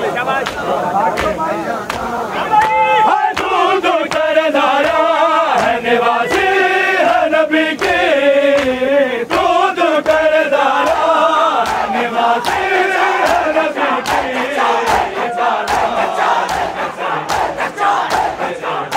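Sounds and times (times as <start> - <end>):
men chanting in unison: 0.0 - 18.9
hands slapping on chests: 0.4 - 18.9.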